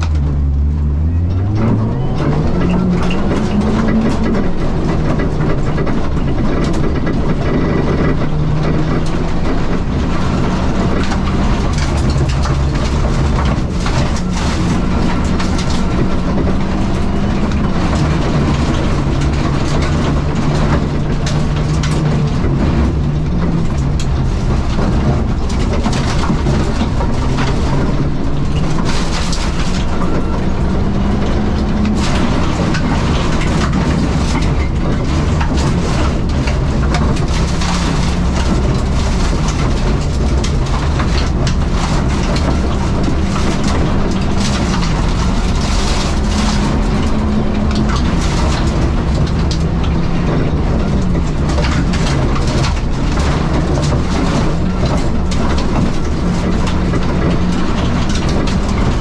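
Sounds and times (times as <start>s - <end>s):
car engine revving through gears: 0.0s - 59.0s
tyres on loose dirt: 0.0s - 59.0s.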